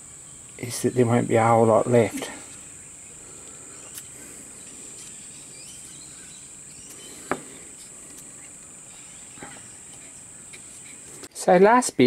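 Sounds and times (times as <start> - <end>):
steady high-pitched hiss: 0.0 - 12.0.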